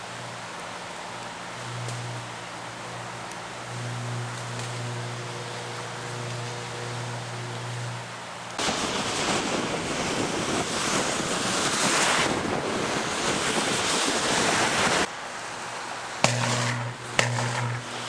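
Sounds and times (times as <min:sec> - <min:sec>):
power line arcing hiss: 0:00.0 - 0:18.0.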